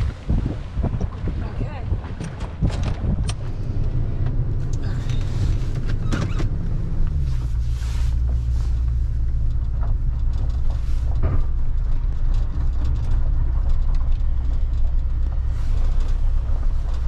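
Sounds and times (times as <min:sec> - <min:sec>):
engine and road drone: 0:02.1 - 0:17.0.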